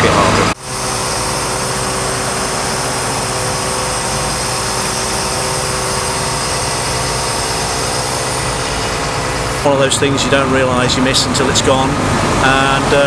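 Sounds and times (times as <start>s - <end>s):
diesel engine droning: 0.0s - 13.0s
hydraulic crane whine: 0.0s - 13.0s.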